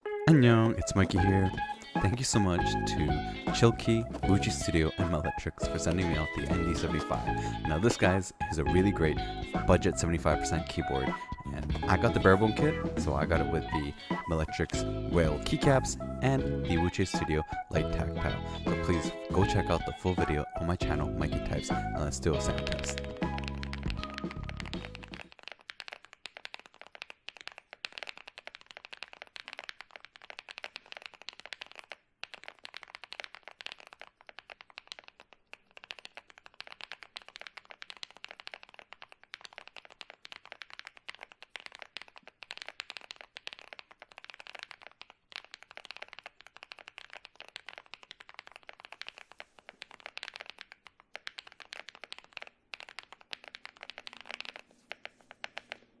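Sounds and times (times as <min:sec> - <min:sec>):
mechanical keyboard typing: 0:00.6 - 0:15.8, 0:18.7 - 0:56.0.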